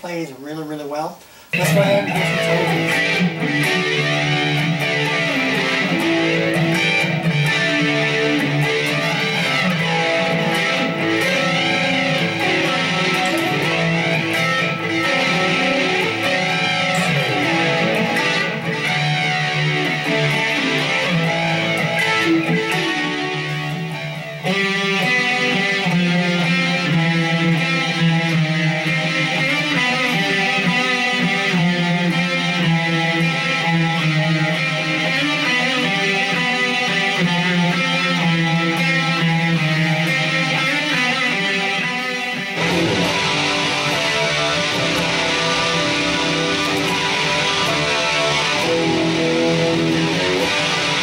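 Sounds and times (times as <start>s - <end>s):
electric guitar playing: 1.5s - 51.0s.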